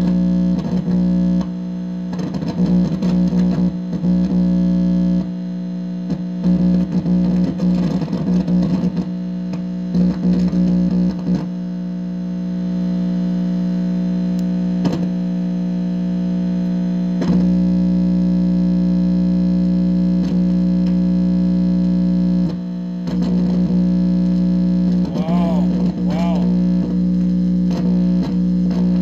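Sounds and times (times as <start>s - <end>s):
amplifier electrical hum: 0.0s - 29.0s.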